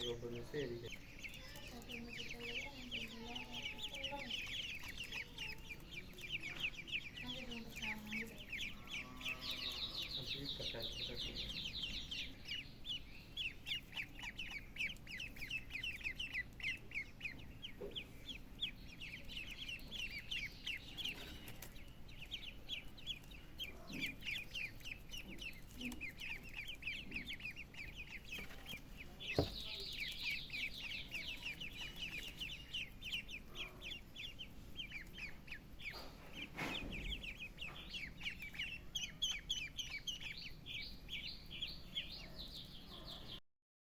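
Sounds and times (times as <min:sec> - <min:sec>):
chicks peeping: 0:00.0 - 0:43.4.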